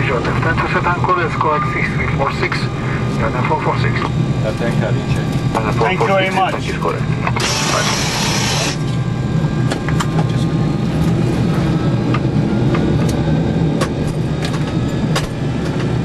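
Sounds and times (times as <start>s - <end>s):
cockpit hum: 0.0s - 16.0s.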